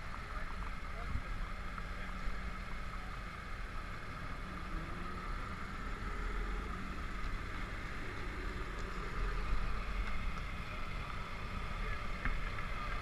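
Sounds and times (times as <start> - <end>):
fire truck engine rumbling: 0.0 - 13.0.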